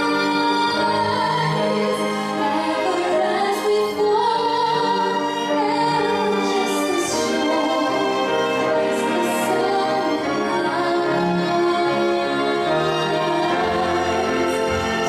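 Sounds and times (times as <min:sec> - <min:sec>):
string orchestra chords: 0:00.0 - 0:15.0.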